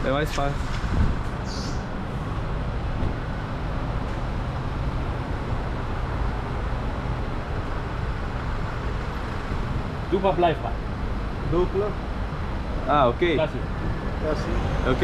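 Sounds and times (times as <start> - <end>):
low rumble of vehicle engines: 0.0 - 15.0.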